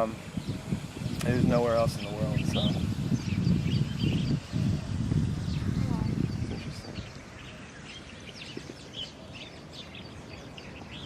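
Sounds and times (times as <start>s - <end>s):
wild birds chirping: 0.0s - 11.0s.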